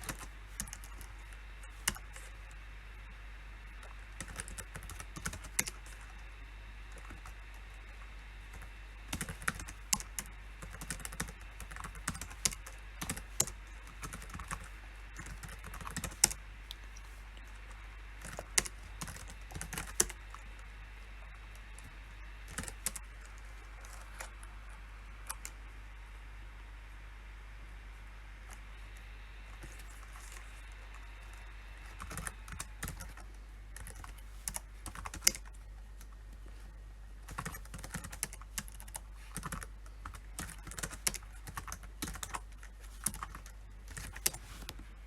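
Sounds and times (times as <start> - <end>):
computer keyboard typing: 0.0 - 2.6, 3.7 - 6.3, 6.9 - 20.6, 21.2 - 24.6, 25.2 - 25.6, 29.6 - 36.2, 37.2 - 44.8
steady low hum: 0.0 - 45.0.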